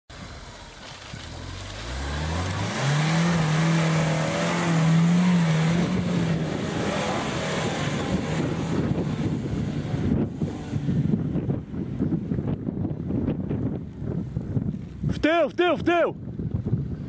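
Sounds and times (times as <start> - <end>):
car engine revving under load: 0.2 - 14.6.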